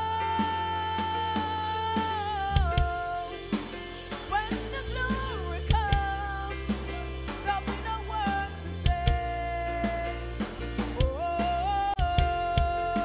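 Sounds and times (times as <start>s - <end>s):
drum kit: 0.0s - 13.0s
keyboard bass notes: 0.0s - 13.0s
woman singing: 0.0s - 13.0s.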